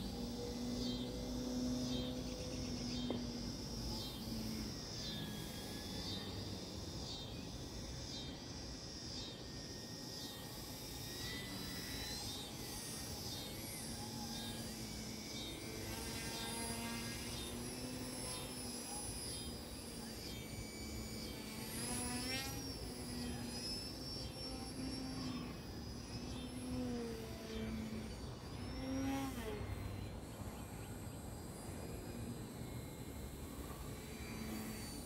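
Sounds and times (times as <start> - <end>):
insects calling: 0.0 - 35.0
model plane motor whining: 0.0 - 35.0.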